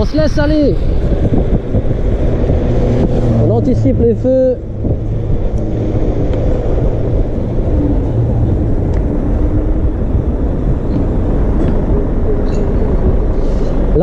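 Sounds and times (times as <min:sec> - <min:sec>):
wind and tyre rushing noise: 0:00.0 - 0:14.0.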